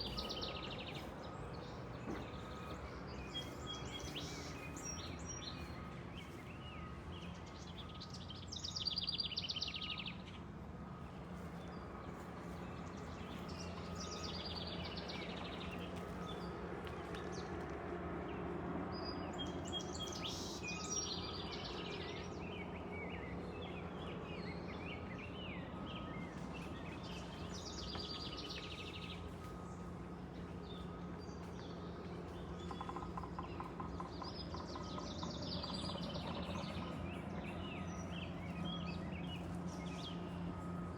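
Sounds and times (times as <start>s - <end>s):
songbirds trilling: 0.0s - 17.6s, 18.9s - 40.9s
low background hum: 0.0s - 40.9s.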